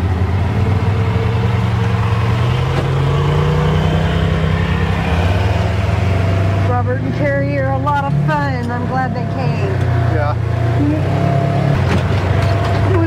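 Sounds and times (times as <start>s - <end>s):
side-by-side engine running: 0.0s - 13.0s.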